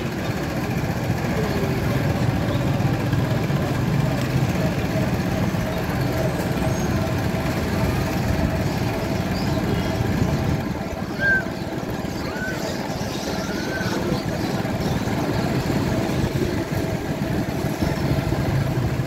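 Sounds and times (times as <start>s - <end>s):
motorcycle engines rumbling: 0.0s - 19.0s
street traffic: 0.0s - 19.0s.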